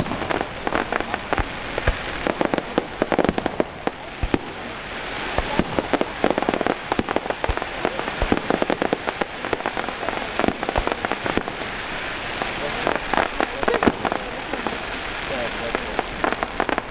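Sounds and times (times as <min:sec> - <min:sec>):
fireworks bangs and crackles: 0:00.0 - 0:16.9
steady crackling hiss: 0:00.0 - 0:16.9.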